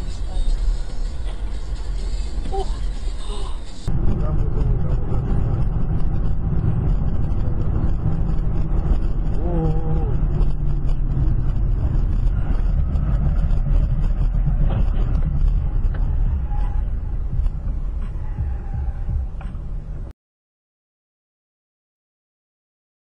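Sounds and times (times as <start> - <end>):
car road and engine rumble: 0.0 - 20.1.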